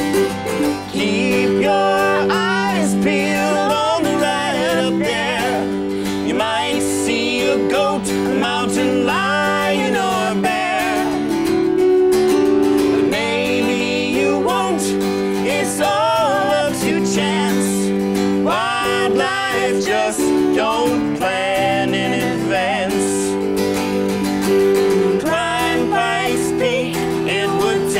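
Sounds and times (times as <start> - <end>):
electric keyboard: 0.0 - 27.9
strummed acoustic guitar: 0.0 - 27.9
voices singing with vibrato: 0.6 - 11.6, 12.9 - 23.4, 25.2 - 27.9.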